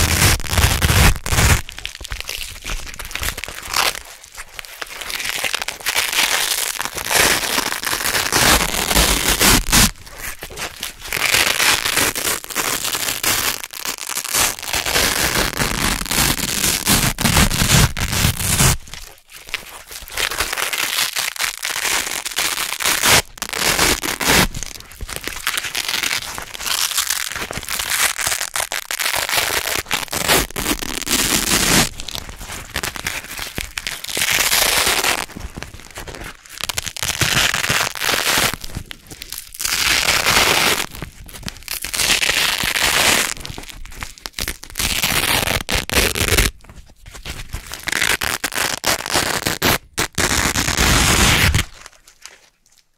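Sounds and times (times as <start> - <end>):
velcro ripping apart: 0.0 - 4.1, 4.7 - 19.2, 20.1 - 46.6, 47.6 - 52.4.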